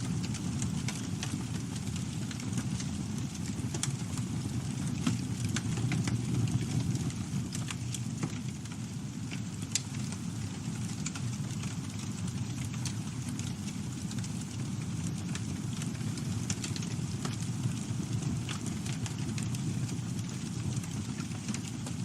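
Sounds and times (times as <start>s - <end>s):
low rumble of flames: 0.0s - 22.0s
wood crackling: 0.0s - 22.0s.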